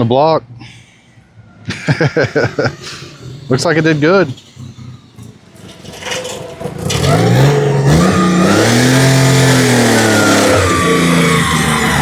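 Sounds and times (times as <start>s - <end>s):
truck engine revving: 1.7s - 12.0s.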